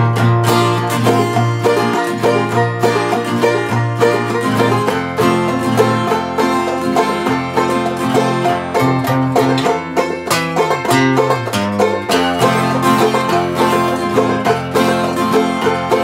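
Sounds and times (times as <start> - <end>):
acoustic guitar playing: 0.0 - 16.0
banjo playing: 0.0 - 16.0.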